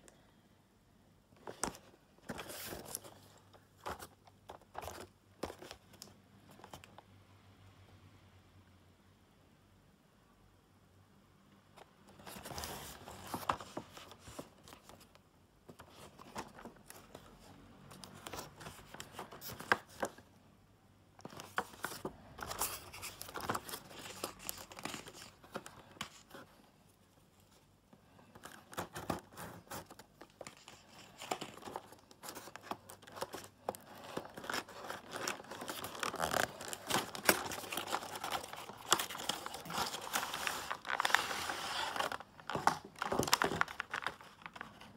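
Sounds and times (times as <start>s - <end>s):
cardboard and plastic packaging rustling: 1.3s - 7.0s, 11.8s - 20.3s, 21.2s - 44.9s.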